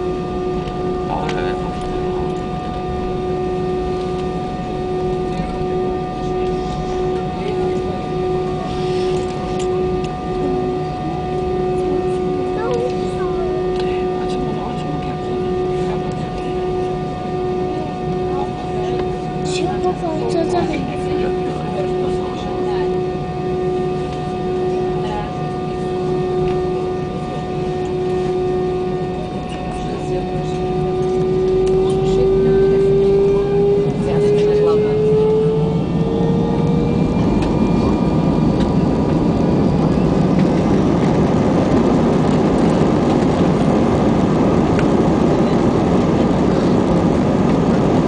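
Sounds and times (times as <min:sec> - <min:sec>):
jet engines rumbling and whining: 0:00.0 - 0:48.0.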